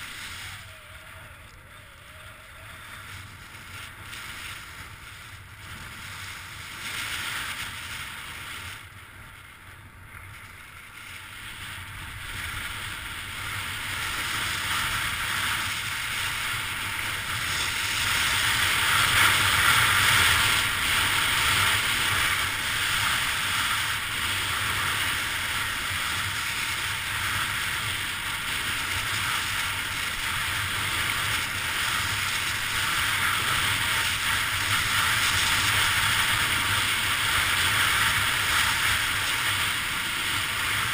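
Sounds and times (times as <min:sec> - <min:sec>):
skis sliding over snow: 0:00.0 - 0:40.9.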